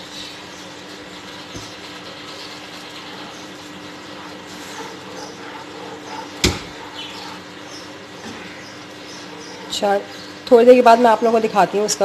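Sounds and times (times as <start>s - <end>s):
juice simmering in a frying pan: 0.0s - 12.0s
plastic spoon stirring and scraping: 0.5s - 10.5s.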